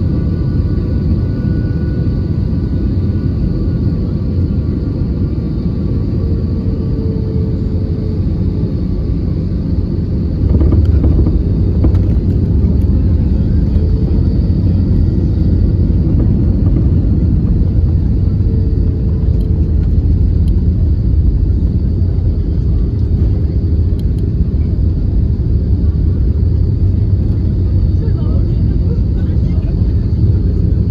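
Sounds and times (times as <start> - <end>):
aircraft cabin rumble: 0.0 - 30.9.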